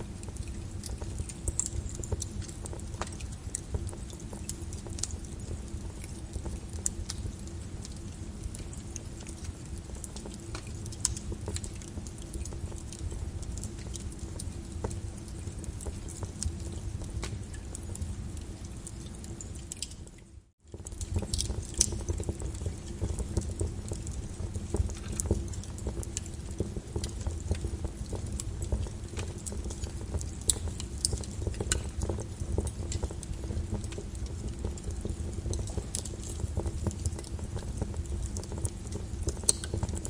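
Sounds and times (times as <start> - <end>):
lava crackling and popping: 0.0 - 40.0.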